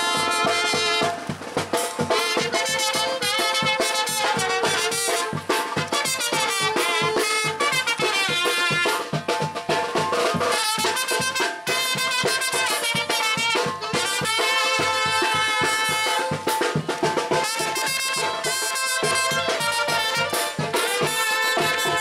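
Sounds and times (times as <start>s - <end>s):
trombones: 0.0s - 9.2s, 10.3s - 16.6s, 17.3s - 22.0s
steady drum beat: 0.0s - 22.0s
trumpets: 0.0s - 22.0s.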